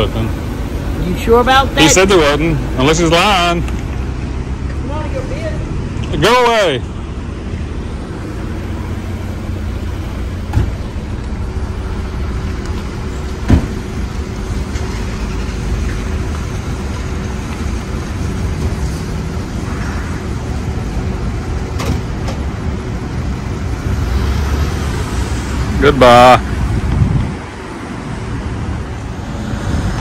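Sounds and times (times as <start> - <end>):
low rumble of motor vehicles: 0.0 - 30.0.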